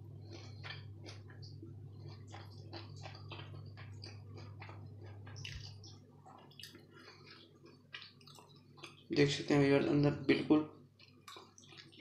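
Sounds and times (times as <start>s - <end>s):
person chewing crunchy food: 0.0s - 9.2s, 10.8s - 12.0s
steady low hum: 0.0s - 12.0s.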